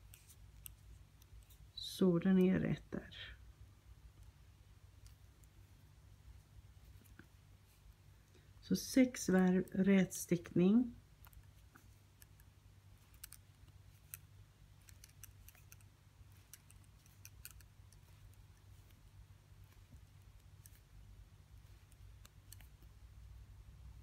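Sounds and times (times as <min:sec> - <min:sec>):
knitting needles clicking: 0:00.0 - 0:02.8, 0:04.0 - 0:05.9, 0:06.8 - 0:23.3
low steady hum: 0:00.0 - 0:24.0.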